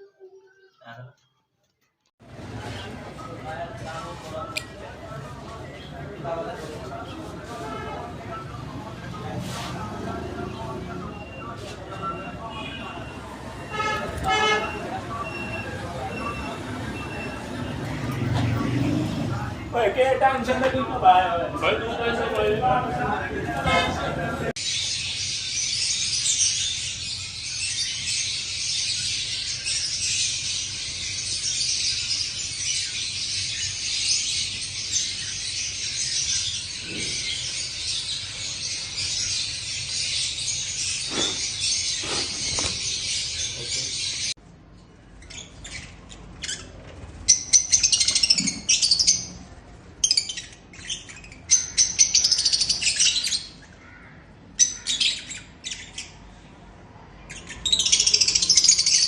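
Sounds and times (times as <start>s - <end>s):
birds chattering: 2.3s - 59.0s.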